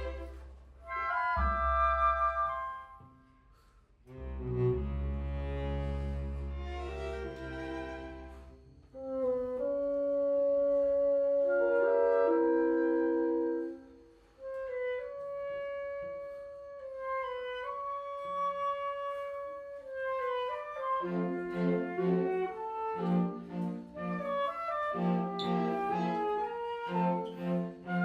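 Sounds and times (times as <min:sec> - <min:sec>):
chamber orchestra classical piece: 0:00.0 - 0:28.0.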